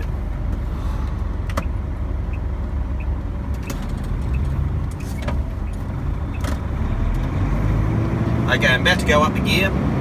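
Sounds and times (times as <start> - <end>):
diesel engine low rumble: 0.0 - 10.0.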